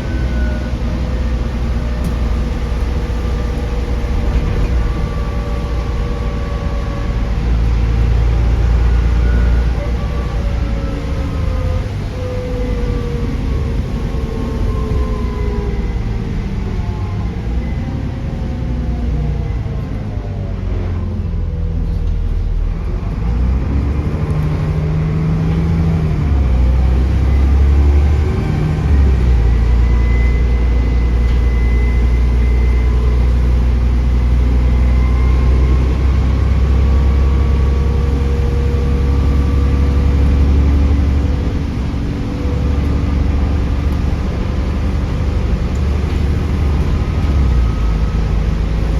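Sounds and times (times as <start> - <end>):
bus diesel engine rumble: 0.0 - 48.9.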